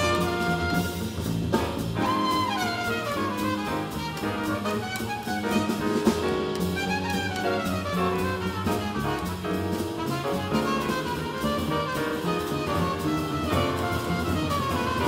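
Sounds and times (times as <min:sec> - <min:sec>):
double bass: 0:00.0 - 0:15.0
drum kit with cymbals: 0:00.0 - 0:15.0
piano: 0:00.0 - 0:15.0
trumpet runs: 0:00.0 - 0:15.0.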